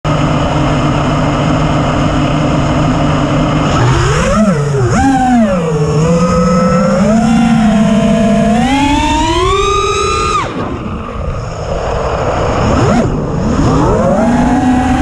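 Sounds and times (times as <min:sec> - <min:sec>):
quadcopter motors whining: 0:00.2 - 0:15.0.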